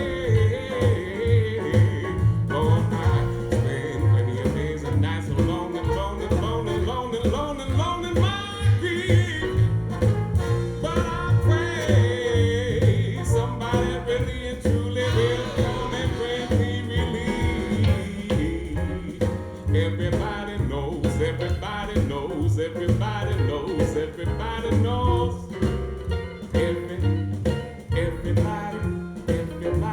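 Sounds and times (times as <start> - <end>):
blues music over loudspeakers: 0.0 - 29.9.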